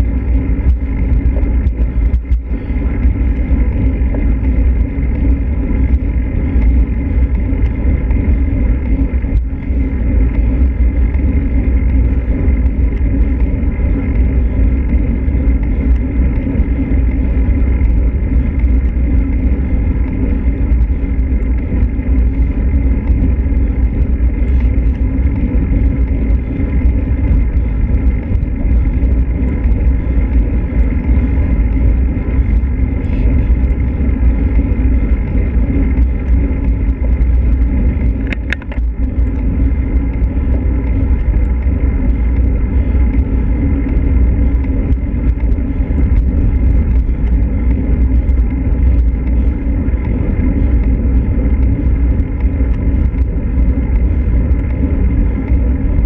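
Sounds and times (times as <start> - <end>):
faint steady whines: 0.0 - 56.0
wind rumble buffeting microphone: 0.0 - 56.0.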